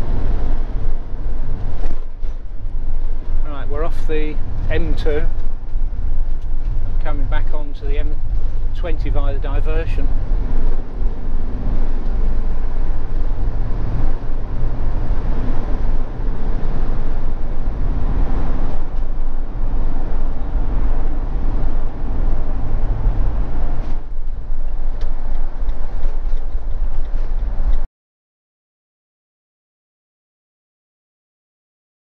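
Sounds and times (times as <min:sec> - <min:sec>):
engine and tyre drone: 0:00.0 - 0:27.8.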